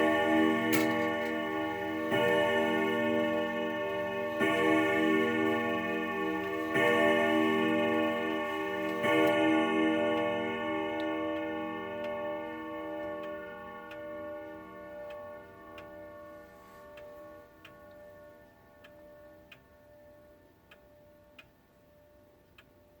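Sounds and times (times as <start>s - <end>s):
clock strike ringing: 0.0s - 21.4s
grandfather clock ticking: 0.0s - 23.0s.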